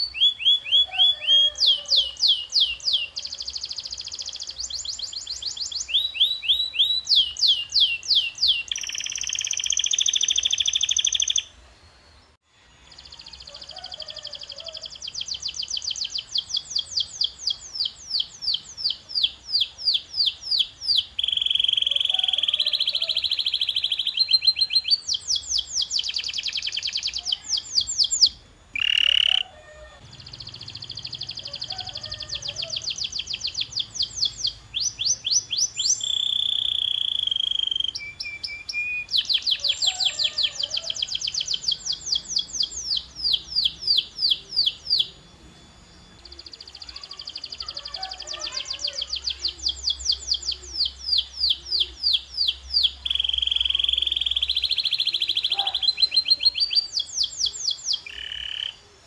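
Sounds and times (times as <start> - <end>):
canary singing: 0.0 - 11.6, 12.2 - 59.0.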